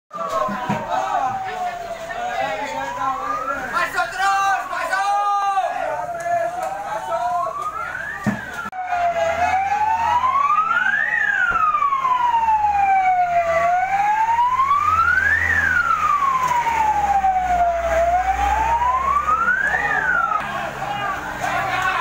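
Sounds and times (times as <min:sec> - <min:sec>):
fire truck siren wailing: 0:00.1 - 0:22.0.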